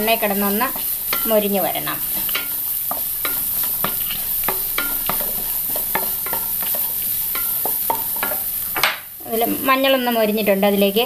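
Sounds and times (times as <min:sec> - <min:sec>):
wooden spatula scraping pan: 0:00.0 - 0:09.8
oil sizzling: 0:00.0 - 0:11.0.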